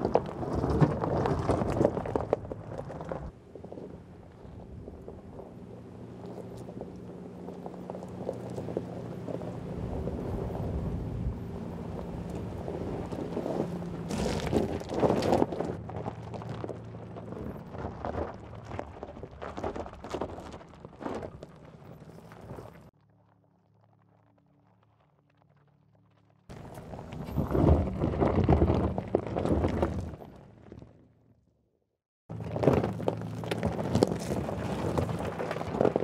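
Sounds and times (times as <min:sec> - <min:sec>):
tyres crunching on gravel: 0:00.0 - 0:31.0, 0:32.3 - 0:36.0.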